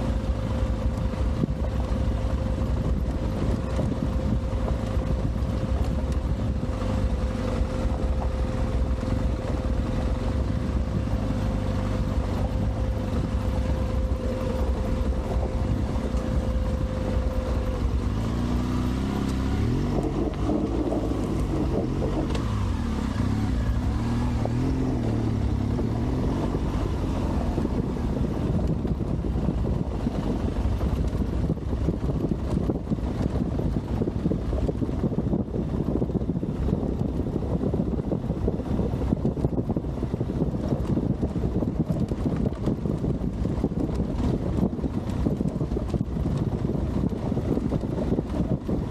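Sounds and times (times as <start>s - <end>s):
motorcycle engine revving: 0.0s - 48.9s
wind noise on microphone: 0.0s - 48.9s.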